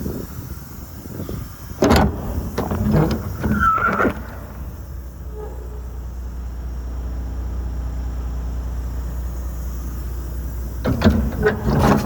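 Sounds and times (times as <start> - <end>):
diesel truck engine idling: 0.9 - 12.0.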